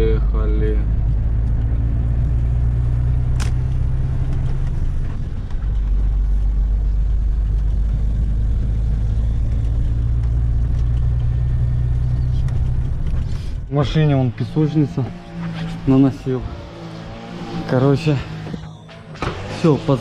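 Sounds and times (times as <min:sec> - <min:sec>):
diesel truck engine running: 0:00.0 - 0:19.8.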